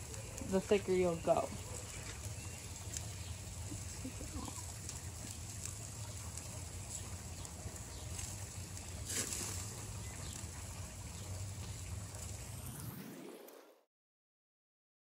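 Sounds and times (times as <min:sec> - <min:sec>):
steaks sizzling on a grill: 0:00.0 - 0:12.6
fat crackling on flames: 0:00.0 - 0:13.0
low grill rumble: 0:00.0 - 0:13.2.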